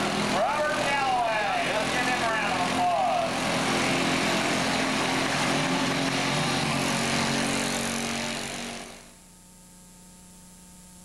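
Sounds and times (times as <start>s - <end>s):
diesel engine running under load: 0.0s - 9.2s.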